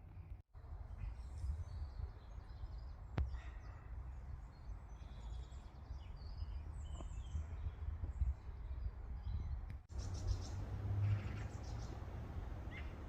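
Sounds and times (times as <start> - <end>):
low wind rumble: 0.0 - 13.0
faint bird chirps: 1.0 - 12.0.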